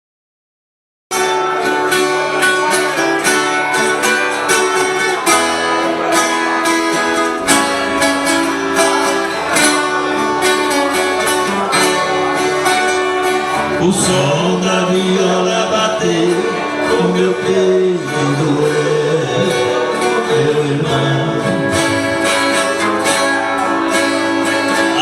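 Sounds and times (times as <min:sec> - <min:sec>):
acoustic guitar-like picking: 0:01.1 - 0:25.0.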